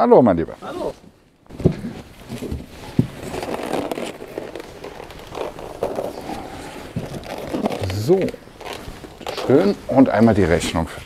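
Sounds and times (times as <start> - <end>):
plastic containers rustling: 0.9 - 10.5.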